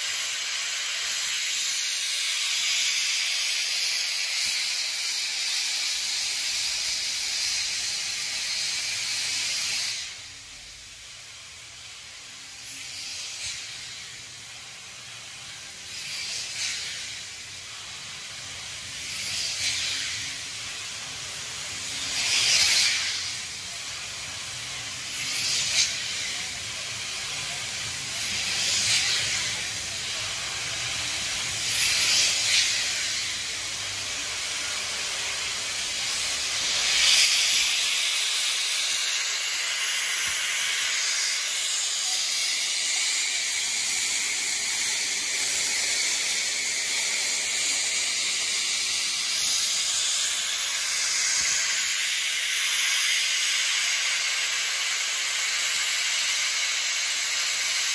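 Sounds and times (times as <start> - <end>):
gusts of steam: 0.0 - 57.9
steam locomotive hissing: 0.0 - 57.9.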